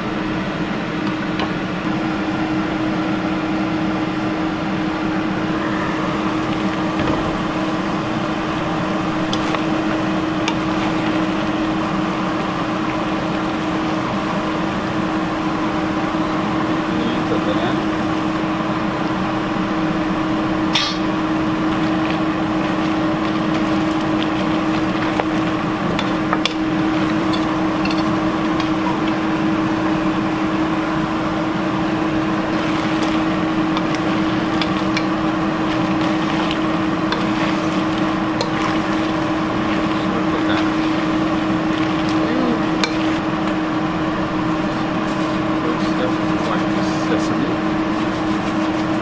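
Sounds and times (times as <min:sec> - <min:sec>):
steady mechanical hum: 0:00.0 - 0:49.0
crawfish stir-frying in a pan: 0:05.8 - 0:43.5, 0:45.0 - 0:49.0.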